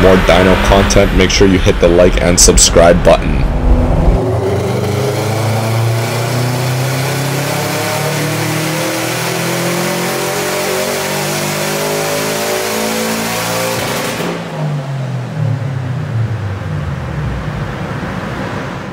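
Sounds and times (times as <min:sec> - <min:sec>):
car engine revving on dyno: 0:00.0 - 0:18.9.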